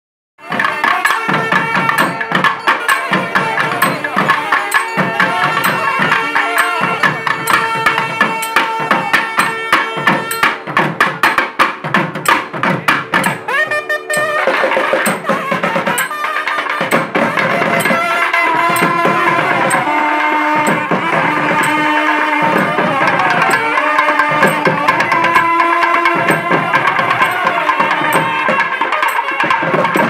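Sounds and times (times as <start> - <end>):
double-reed pipes playing melody: 0.4 - 11.0, 12.8 - 30.0
sharp drum strokes: 0.4 - 30.0.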